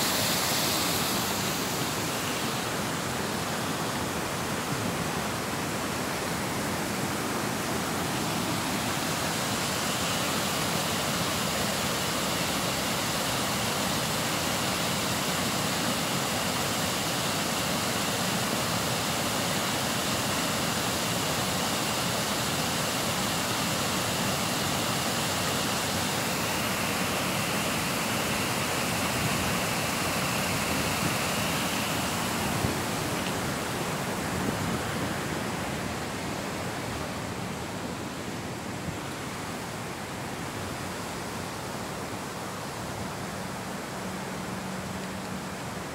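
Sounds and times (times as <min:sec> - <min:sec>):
water rushing through weir: 0:00.0 - 0:45.9.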